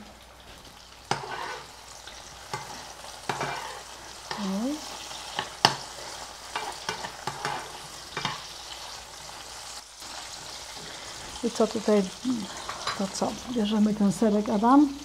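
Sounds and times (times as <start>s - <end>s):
pancakes sizzling in oil: 0.0s - 15.0s.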